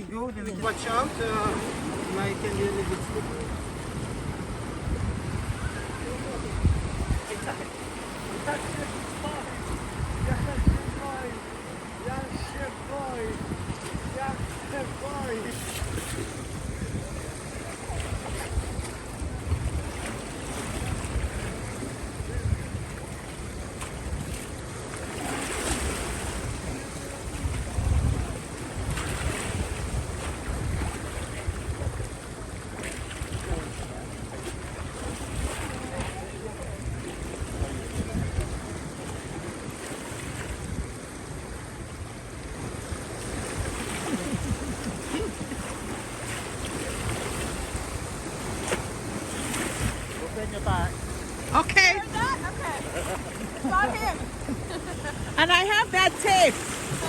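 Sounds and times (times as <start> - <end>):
sea waves: 0.0 - 57.0
wind buffeting microphone: 0.0 - 57.0.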